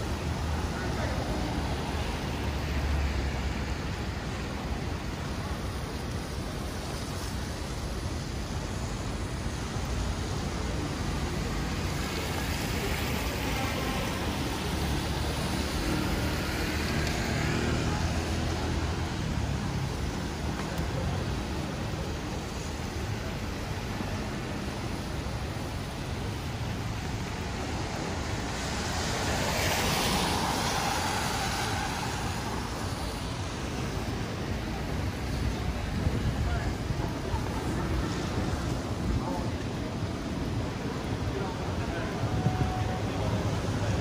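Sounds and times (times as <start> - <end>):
cars passing: 0.0 - 44.0
tyre hiss on wet road: 0.0 - 44.0.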